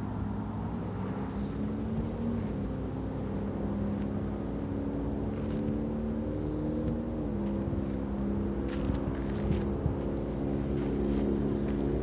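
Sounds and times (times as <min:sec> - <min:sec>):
distant locomotive engine drone: 0:00.0 - 0:12.0.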